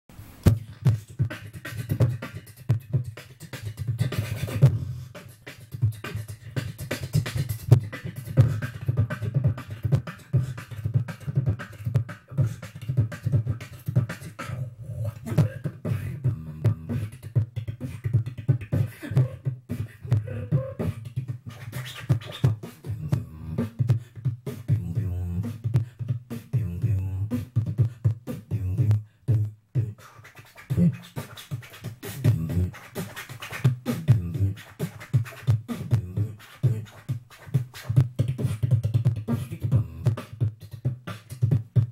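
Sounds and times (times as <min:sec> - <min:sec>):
person beatboxing: 0:00.3 - 0:41.9.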